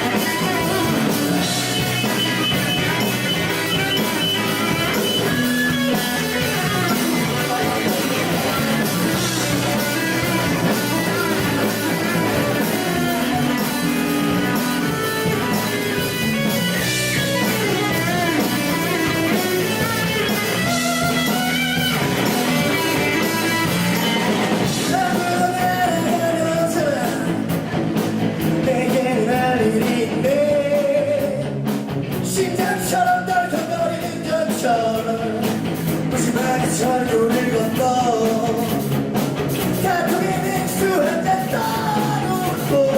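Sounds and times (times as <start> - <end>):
electric guitar: 0.0 - 42.9
rock band playing live: 0.0 - 42.9.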